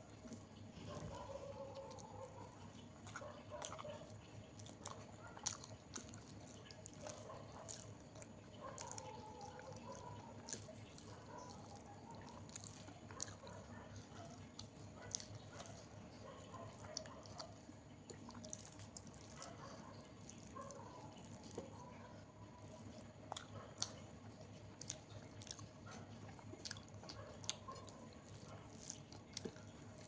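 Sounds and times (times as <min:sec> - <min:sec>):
wet chewing: 0:00.0 - 0:30.0.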